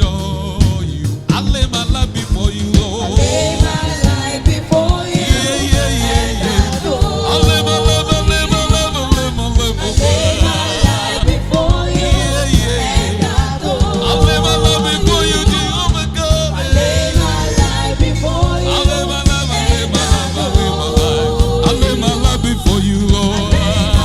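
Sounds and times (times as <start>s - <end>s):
band playing: 0.0s - 24.0s
gospel singing voices: 0.0s - 24.0s.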